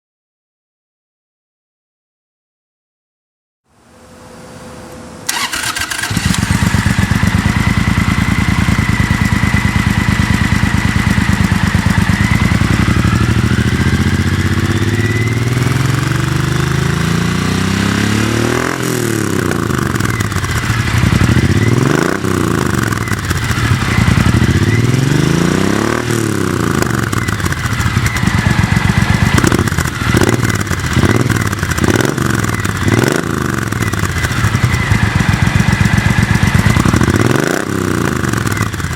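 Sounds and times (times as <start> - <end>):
motorcycle engine revving: 5.3 - 38.9.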